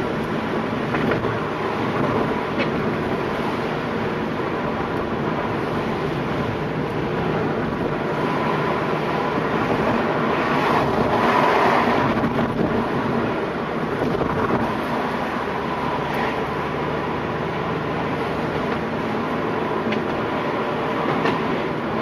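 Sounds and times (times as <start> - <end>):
road noise inside car: 0.0 - 22.0
streetcar passing: 0.0 - 22.0.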